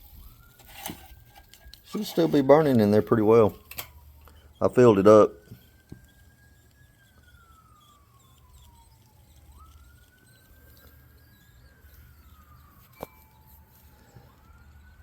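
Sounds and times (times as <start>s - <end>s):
distant siren wailing: 0.0s - 15.0s.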